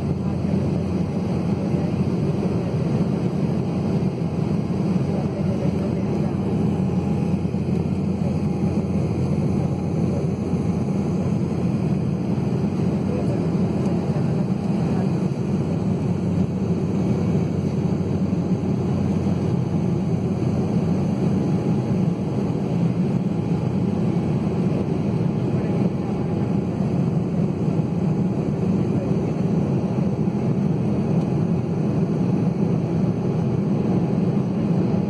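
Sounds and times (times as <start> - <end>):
airliner cabin roar: 0.0 - 35.0.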